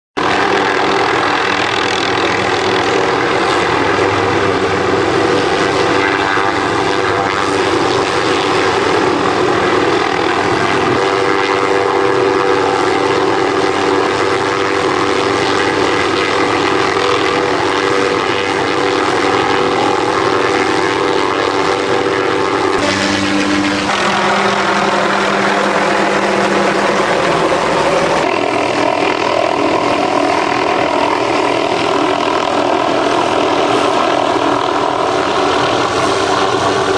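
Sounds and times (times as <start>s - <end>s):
helicopter turbine and rotor: 0.2s - 36.9s.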